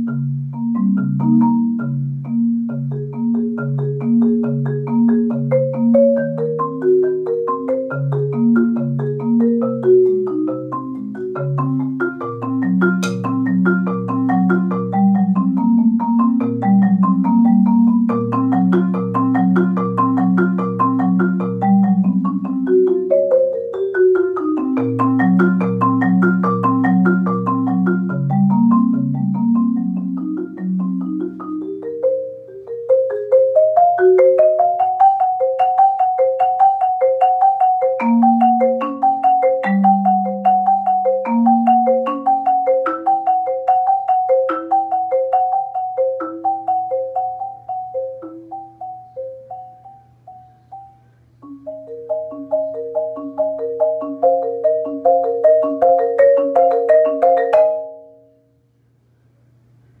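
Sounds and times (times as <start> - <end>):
marimba playing: 0.0 - 58.5.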